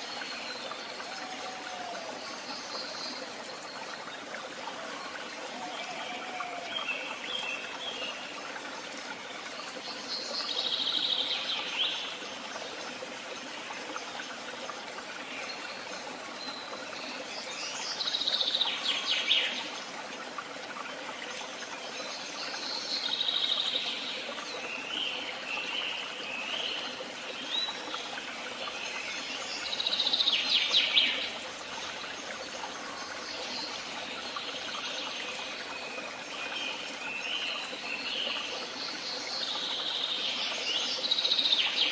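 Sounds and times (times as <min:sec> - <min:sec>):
stream rushing: 0:00.0 - 0:41.9.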